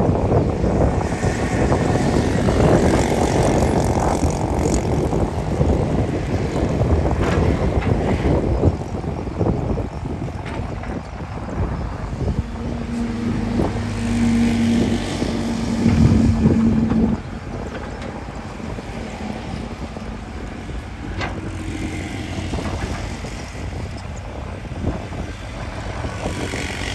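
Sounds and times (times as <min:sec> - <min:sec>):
heavy diesel engine under load: 0:00.1 - 0:26.9.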